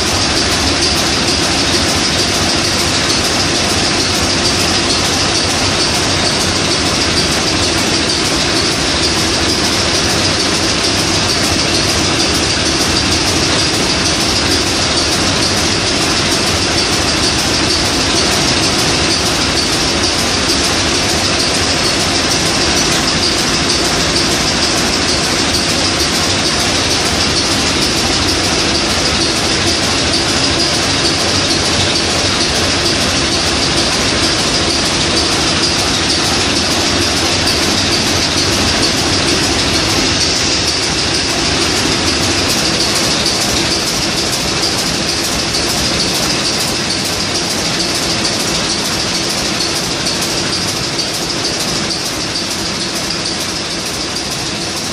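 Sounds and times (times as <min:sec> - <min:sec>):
diesel engine running loud: 0:00.0 - 0:54.9.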